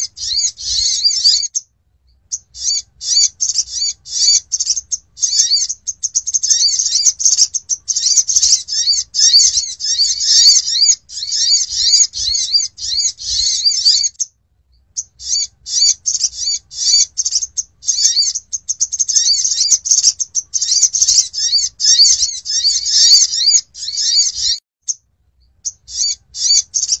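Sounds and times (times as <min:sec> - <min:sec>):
bird chirping rapidly: 0:00.0 - 0:27.0.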